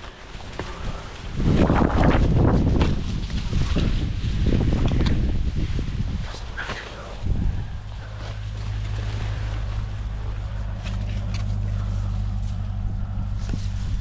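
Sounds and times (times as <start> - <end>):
corn stalks and leaves rustling: 0.0 - 14.0
engine hum: 0.0 - 14.0.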